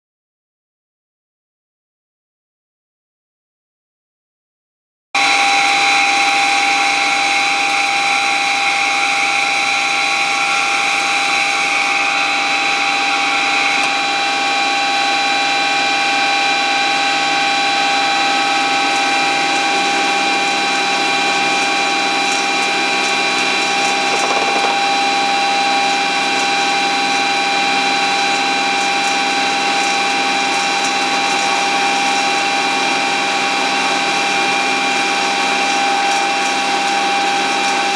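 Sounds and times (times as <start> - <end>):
band saw whining: 5.2 - 37.9.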